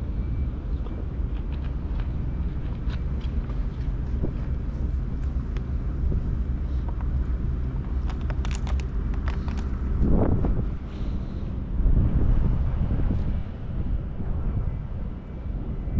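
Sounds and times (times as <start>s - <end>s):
low rumble and faint hum: 0.0s - 15.9s
wind buffeting microphone: 0.0s - 15.9s.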